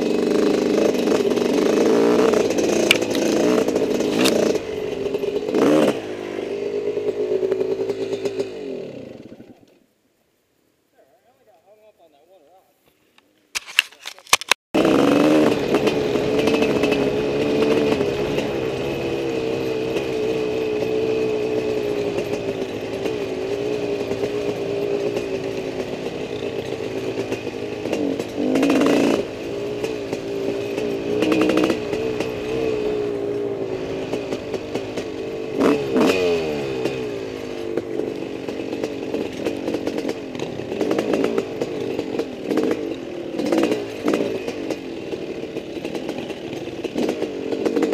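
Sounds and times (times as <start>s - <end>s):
dirt bike engine running: 0.0s - 9.6s, 14.8s - 47.9s.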